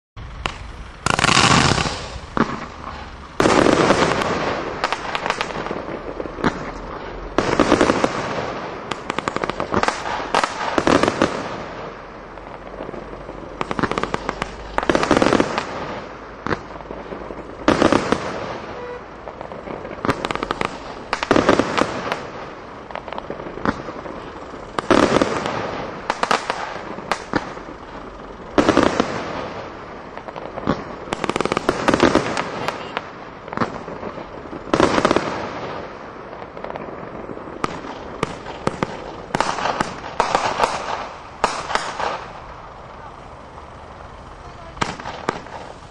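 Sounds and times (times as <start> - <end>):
firework shots: 0.2 - 45.9
sharp crackling of firework stars: 0.2 - 45.9.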